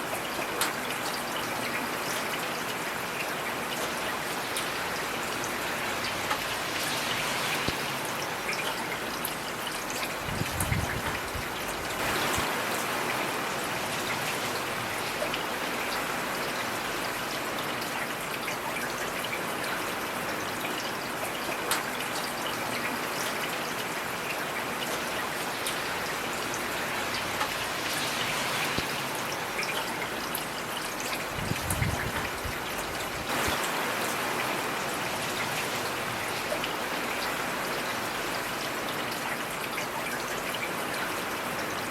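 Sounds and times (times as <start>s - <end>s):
heavy rain on hard surface: 0.0s - 41.9s.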